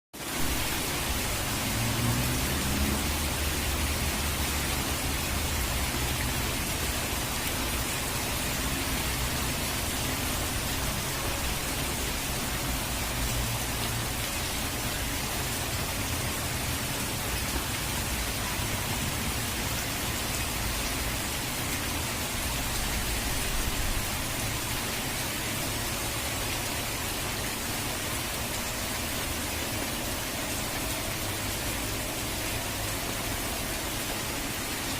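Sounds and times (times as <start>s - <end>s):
rain falling: 0.2s - 34.9s.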